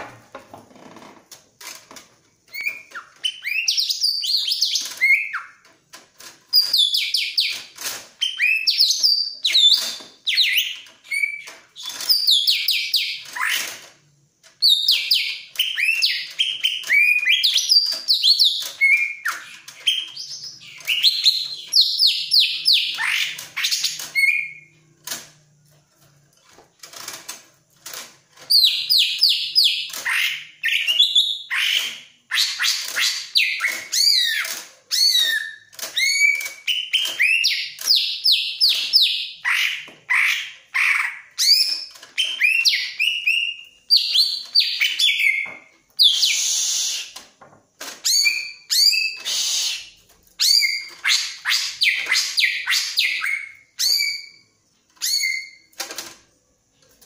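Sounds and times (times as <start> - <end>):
bird chirping and whistling: 2.5 - 5.6, 6.5 - 13.7, 14.6 - 24.8, 28.5 - 47.2, 48.0 - 54.4, 55.0 - 55.7.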